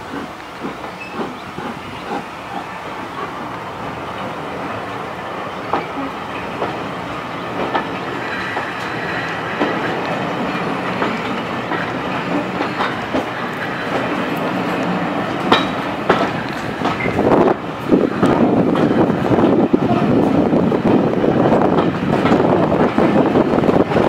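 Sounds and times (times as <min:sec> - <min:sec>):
train wheels clacking over rail joints: 0:00.0 - 0:24.0.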